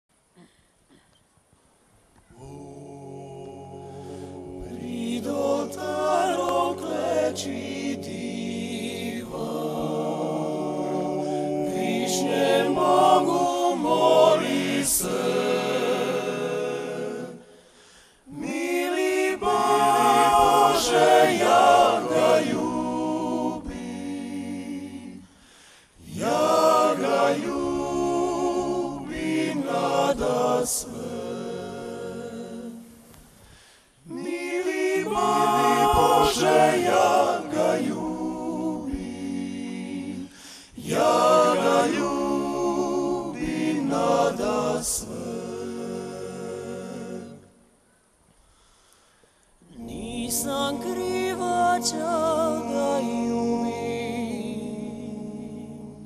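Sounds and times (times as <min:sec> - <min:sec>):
male a cappella group singing: 0:02.3 - 0:47.7, 0:49.6 - 0:56.0.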